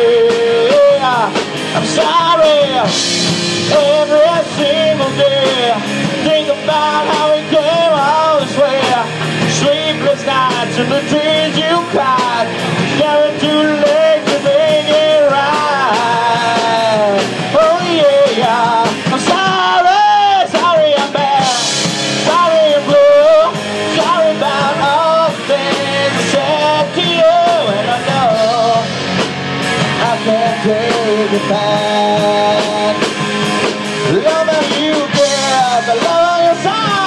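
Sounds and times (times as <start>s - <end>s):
bending electric guitar lead: 0.0s - 37.0s
rock band playing: 0.0s - 37.0s.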